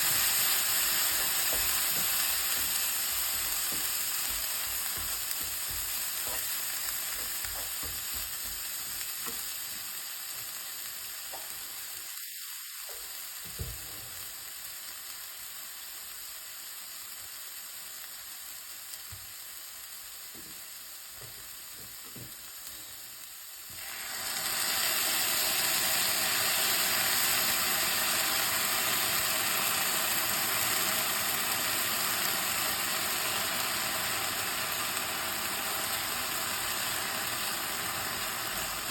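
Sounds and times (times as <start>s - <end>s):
food sizzling in a pan: 0.0s - 38.9s
loud steady hiss: 0.0s - 38.9s.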